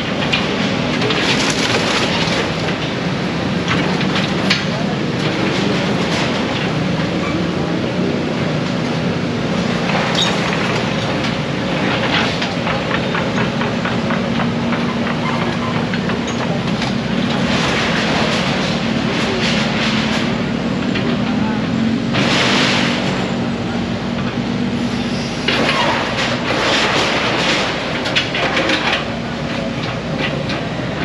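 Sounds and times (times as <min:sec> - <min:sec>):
heavy engine humming: 0:00.0 - 0:31.0.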